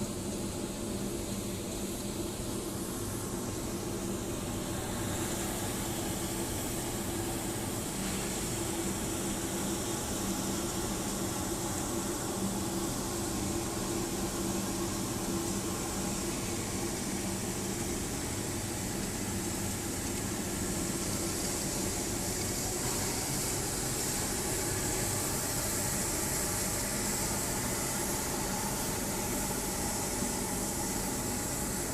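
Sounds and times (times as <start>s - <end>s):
furnace blower and fire rushing: 2.5s - 31.9s.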